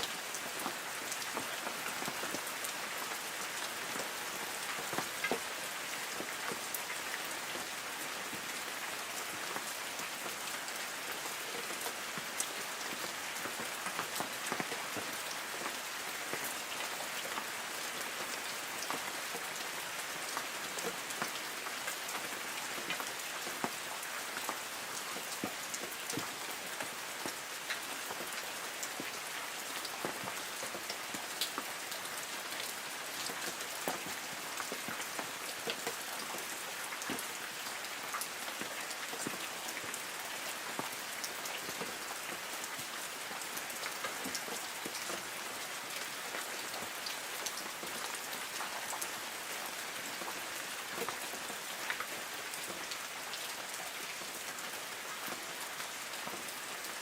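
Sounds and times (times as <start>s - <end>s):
light rain on leaves: 0.0s - 57.0s.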